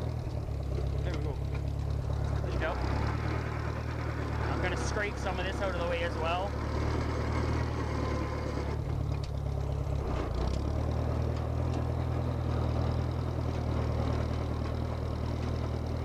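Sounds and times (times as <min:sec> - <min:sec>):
bulldozer engine running: 0:00.0 - 0:16.0.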